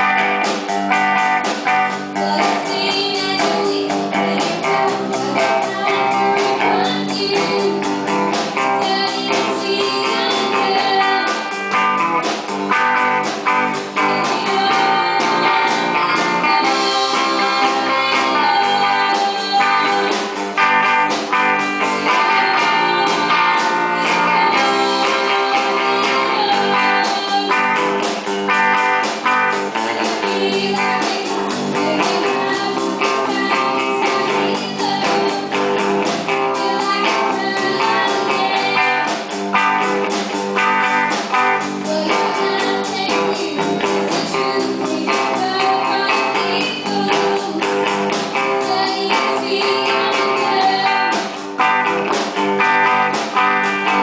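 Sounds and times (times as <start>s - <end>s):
girl singing: 0.0s - 40.0s, 40.6s - 54.0s
drum kit: 0.0s - 54.0s
strummed guitars: 0.0s - 54.0s.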